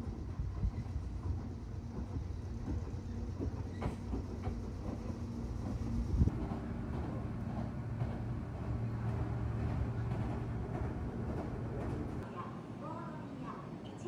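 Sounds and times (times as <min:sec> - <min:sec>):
train rumbling: 0:00.0 - 0:13.8.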